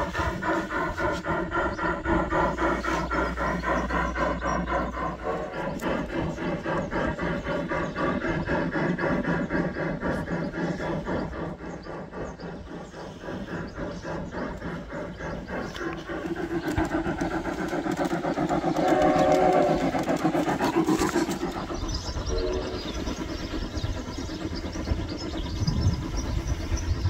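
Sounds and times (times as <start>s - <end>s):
model train rhythmic clatter: 0.0s - 27.0s.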